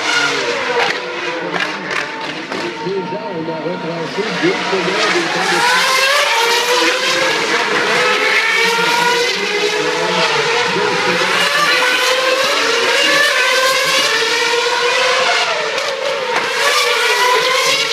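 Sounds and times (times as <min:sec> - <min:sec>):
racing car engine revving: 0:00.0 - 0:17.9.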